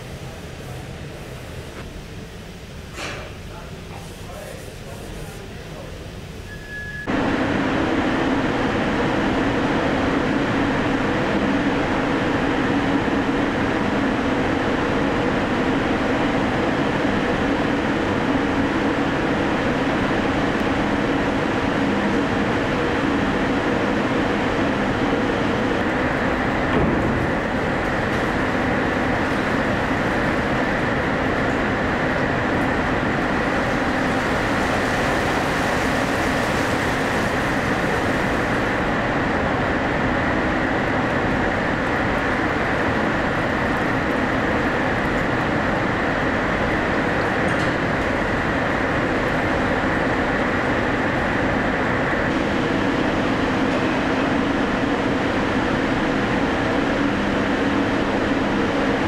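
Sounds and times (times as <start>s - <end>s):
factory machinery rumble and hiss: 0.0s - 59.0s.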